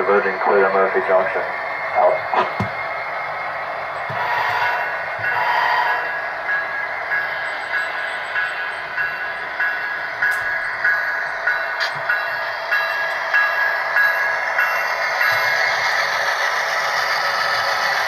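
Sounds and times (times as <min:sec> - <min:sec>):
model train diesel locomotive drone: 0:00.0 - 0:18.0.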